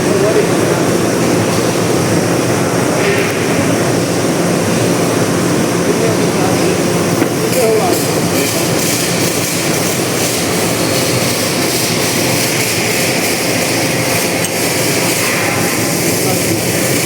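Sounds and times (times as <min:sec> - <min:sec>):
loud machine hum: 0:00.0 - 0:17.0.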